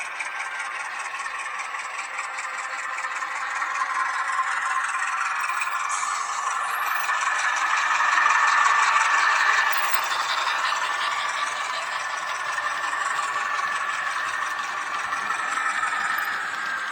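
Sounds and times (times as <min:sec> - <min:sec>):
model train whirring rattle: 0:00.0 - 0:16.9.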